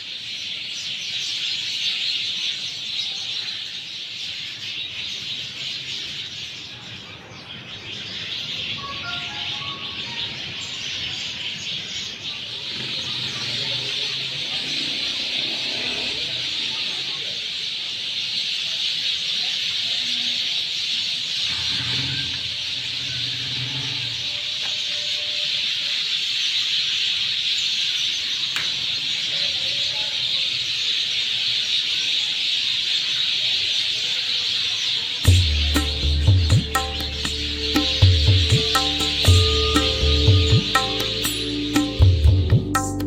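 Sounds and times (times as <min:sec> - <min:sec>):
many small birds chirping: 0:00.0 - 0:43.0.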